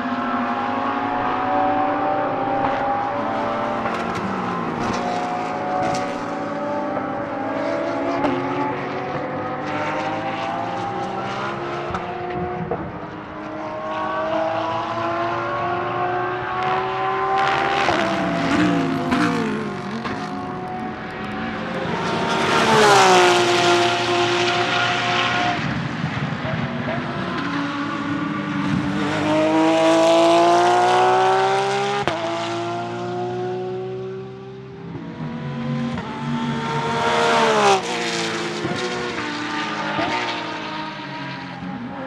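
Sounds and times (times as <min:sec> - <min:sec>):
car passing at full throttle: 0:00.0 - 0:42.0
race car engine accelerating: 0:00.1 - 0:42.0.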